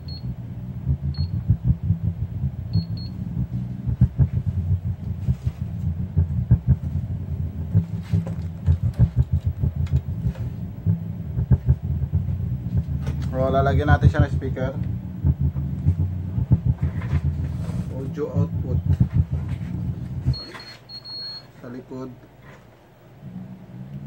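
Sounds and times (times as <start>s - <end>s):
speaker low rumble: 0.0s - 24.0s.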